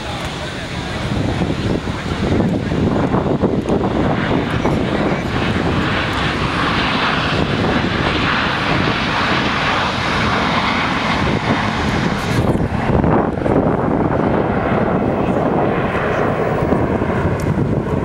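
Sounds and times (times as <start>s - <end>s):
jets flying past: 0.0s - 18.0s.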